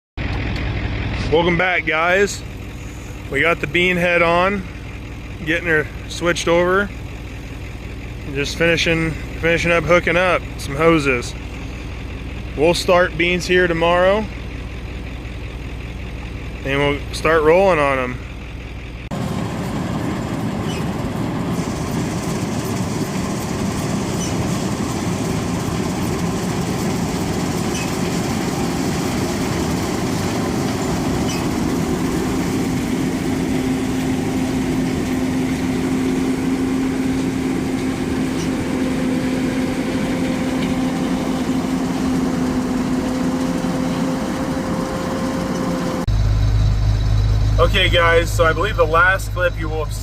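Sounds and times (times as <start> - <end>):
combine harvester running: 0.2 - 50.0
low hum: 0.2 - 50.0.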